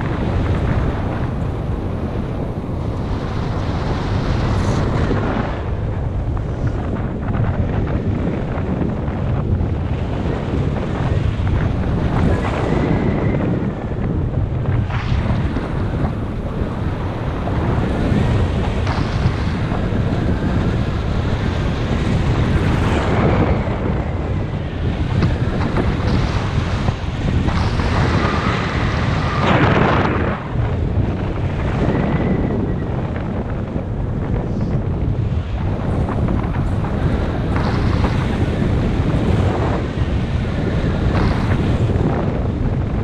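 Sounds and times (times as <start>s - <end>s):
wind noise on microphone: 0.0s - 43.0s.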